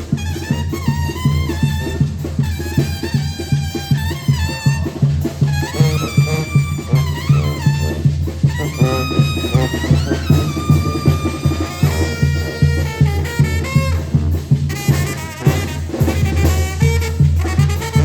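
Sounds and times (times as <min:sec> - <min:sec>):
drums: 0:00.0 - 0:18.0
horn melody: 0:00.0 - 0:18.0.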